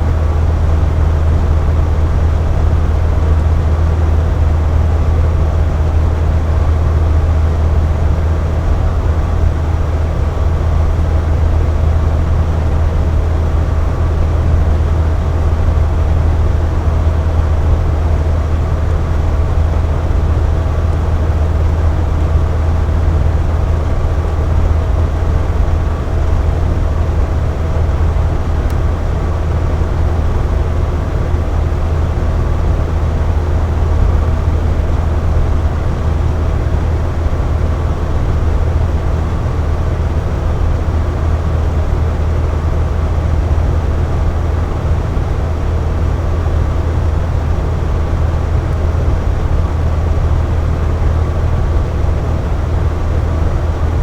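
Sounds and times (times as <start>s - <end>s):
box fan running: 0.0s - 54.0s.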